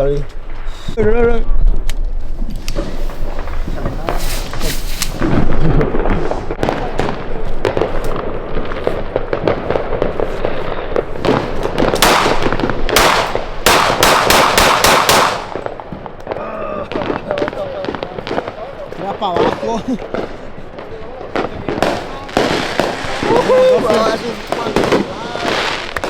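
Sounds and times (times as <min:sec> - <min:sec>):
fireworks popping and banging: 0:01.7 - 0:26.0.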